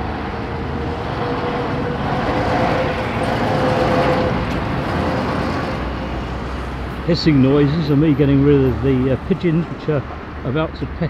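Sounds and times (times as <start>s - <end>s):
diesel lorries passing: 0.0s - 11.0s.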